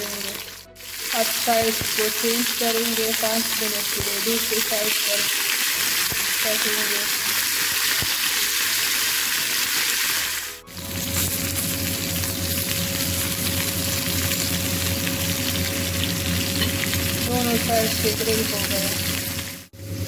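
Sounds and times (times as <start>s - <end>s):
meat sizzling on a grill pan: 0.0s - 19.7s.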